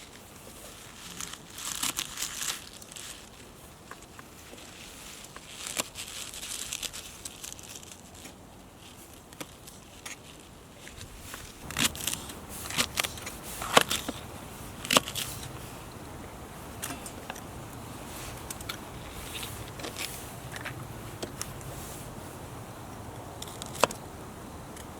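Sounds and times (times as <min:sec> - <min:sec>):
rustling and handling noise: 0:00.0 - 0:24.9.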